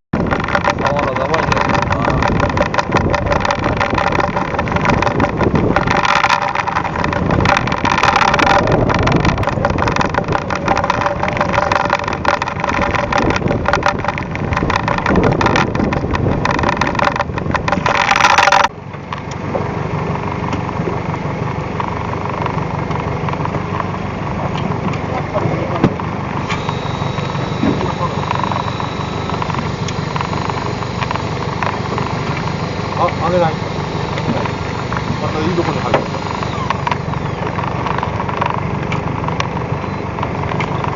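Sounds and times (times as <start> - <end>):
boat engine running: 0.0 - 40.9
rushing wind: 0.1 - 40.9
water noise: 0.1 - 40.9.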